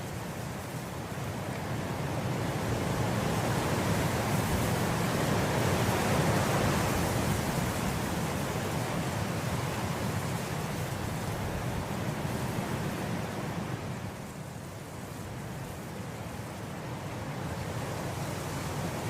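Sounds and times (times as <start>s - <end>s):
wind blowing through grass: 0.0s - 19.0s.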